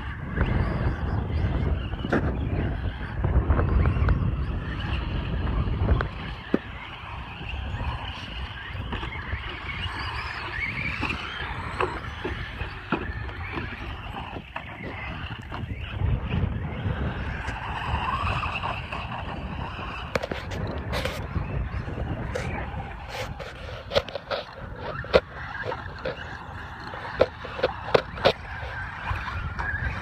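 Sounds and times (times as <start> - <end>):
heavy rumble: 0.0 - 30.0
rc truck motor whine: 0.0 - 30.0
tyres scrabbling on dirt: 0.0 - 30.0.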